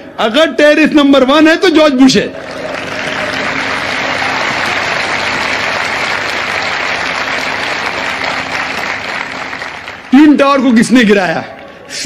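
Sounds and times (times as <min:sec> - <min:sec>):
large audience applauding: 0:02.0 - 0:12.0.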